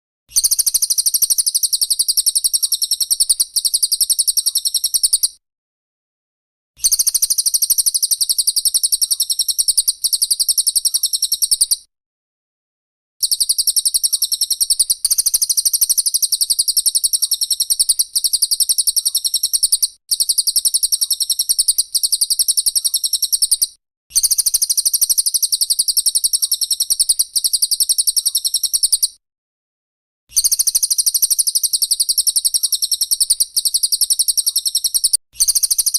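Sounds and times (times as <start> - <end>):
songbird rattling trill: 0.3 - 5.4, 6.8 - 11.8, 13.2 - 29.2, 30.3 - 35.9.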